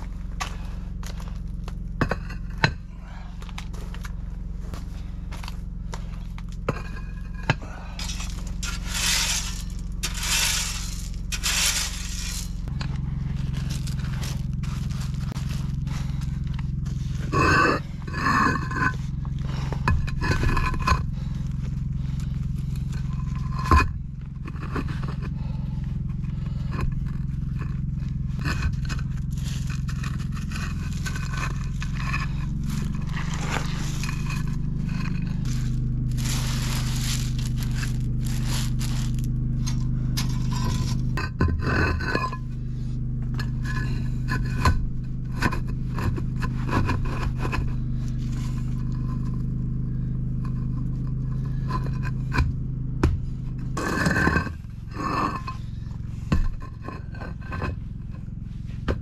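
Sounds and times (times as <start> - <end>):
rock scraping and crunching: 0.0 - 59.0
tractor engine running: 0.0 - 59.0.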